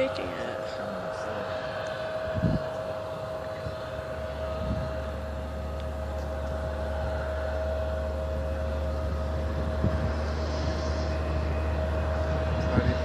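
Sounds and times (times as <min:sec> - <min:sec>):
jet engines whining and rumbling: 0:00.0 - 0:13.0.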